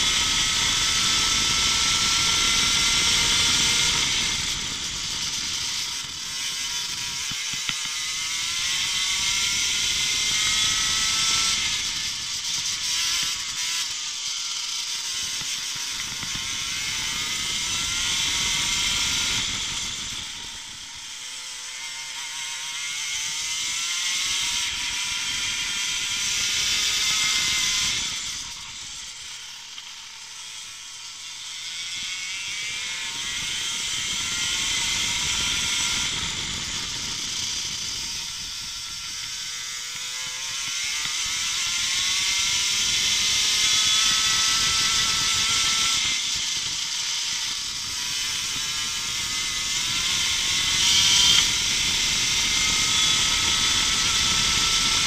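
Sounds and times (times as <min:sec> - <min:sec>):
kart engine racing: 0:00.0 - 0:29.1, 0:32.5 - 0:55.0.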